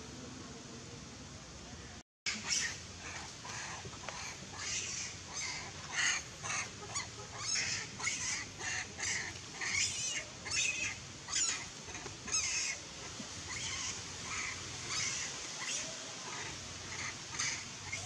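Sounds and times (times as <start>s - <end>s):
monkeys squealing: 2.3s - 12.8s, 13.5s - 18.0s.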